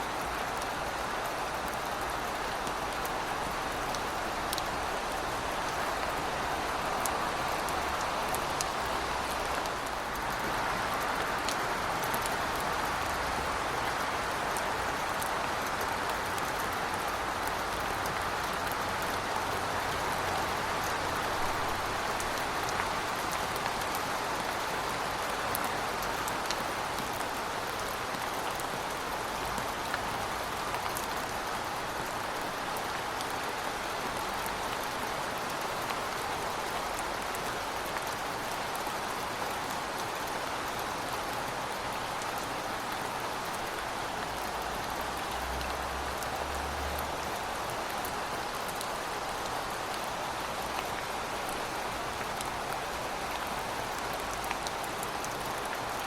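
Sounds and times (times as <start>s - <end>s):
heavy rain falling: 0.0s - 56.0s
sharp ticks of raindrops: 0.0s - 56.0s.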